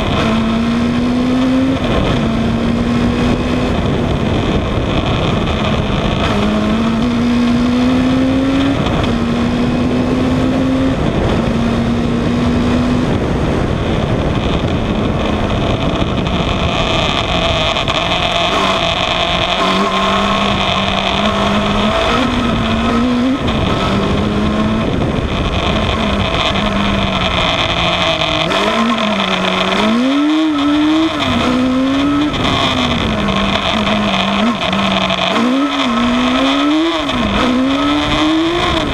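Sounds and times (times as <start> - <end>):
racing car engine revving: 0.0 - 38.9
wind rushing over microphone: 0.0 - 38.9.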